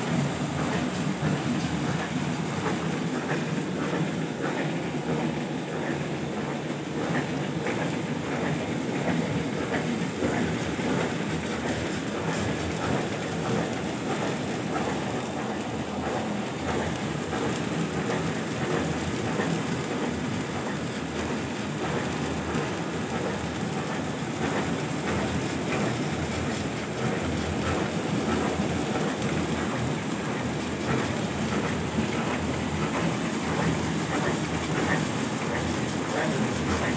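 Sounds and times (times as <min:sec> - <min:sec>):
machine rattling and clattering: 0:00.0 - 0:36.9.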